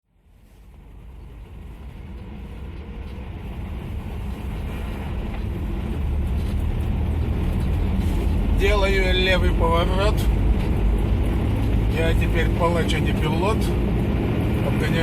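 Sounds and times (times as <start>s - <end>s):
car engine accelerating: 0.7s - 15.0s.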